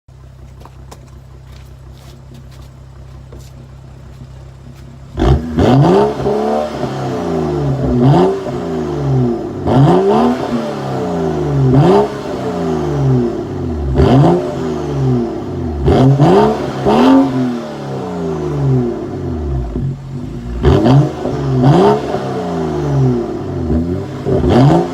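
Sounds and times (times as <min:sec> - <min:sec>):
car engine idling and revving: 0:00.1 - 0:24.9.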